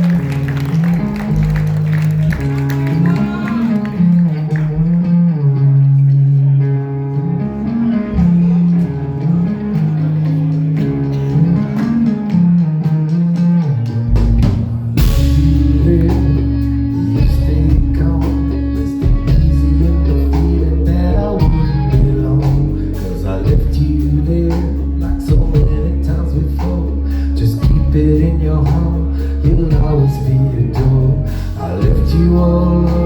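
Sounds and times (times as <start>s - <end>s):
guitar line: 0.0s - 33.0s
rock band playing: 0.0s - 33.0s.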